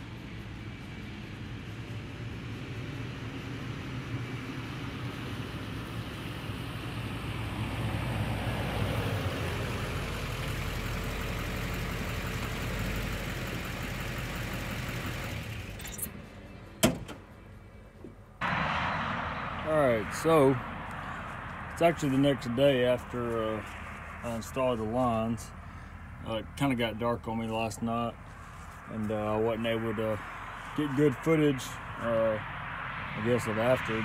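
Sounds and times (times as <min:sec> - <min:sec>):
diesel truck engine passing: 0:00.0 - 0:34.0.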